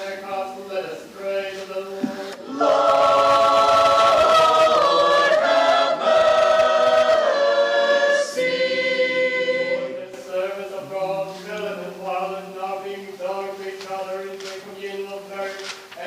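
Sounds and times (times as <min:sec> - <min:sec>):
choir singing chant: 0:00.0 - 0:14.2.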